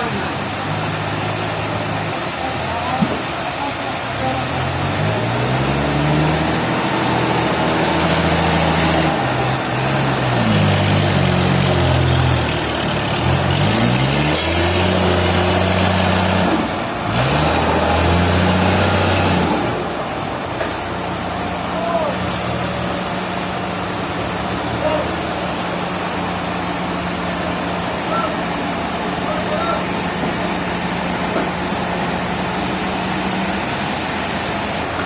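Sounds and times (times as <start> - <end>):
large engine revving and idling: 0.0 - 35.0.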